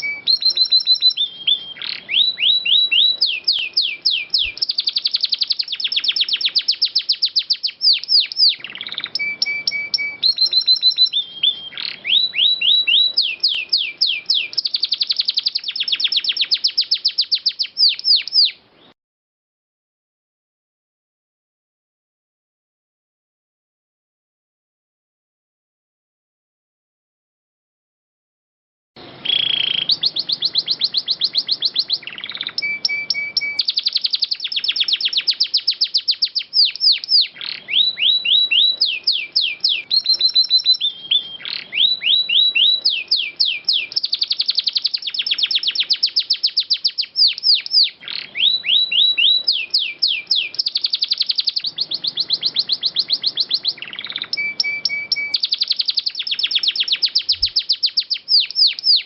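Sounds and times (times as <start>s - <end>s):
canary singing trills: 0.0s - 19.0s, 29.0s - 59.0s.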